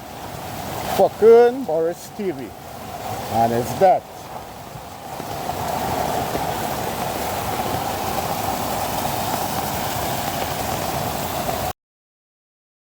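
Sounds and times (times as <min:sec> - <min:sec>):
floodwater rushing: 0:00.0 - 0:11.7.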